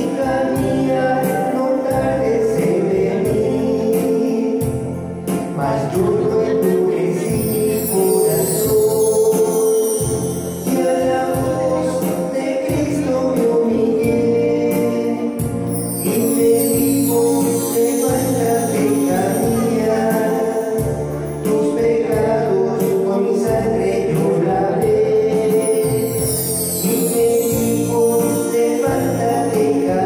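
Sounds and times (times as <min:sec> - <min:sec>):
amplified instrumental accompaniment: 0:00.0 - 0:30.0
light percussion: 0:00.0 - 0:30.0
prominent bass line: 0:00.0 - 0:30.0.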